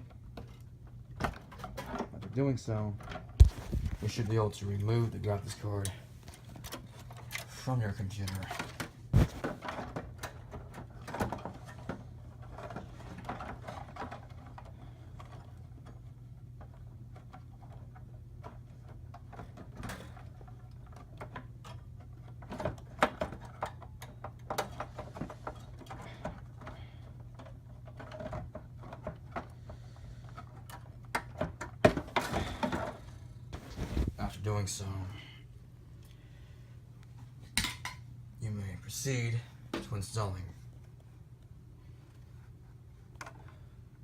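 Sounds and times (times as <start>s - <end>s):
steady low hum: 0.0s - 22.4s, 23.6s - 44.0s.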